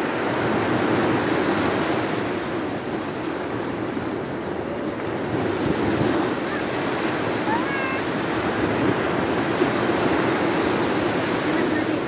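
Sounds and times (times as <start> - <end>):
sea surf breaking on sand: 0.0 - 12.0
wind on microphone: 0.0 - 12.0.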